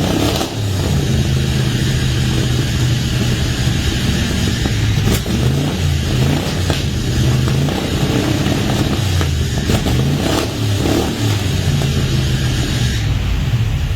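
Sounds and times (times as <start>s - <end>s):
pickup engine running unevenly: 0.0s - 13.9s.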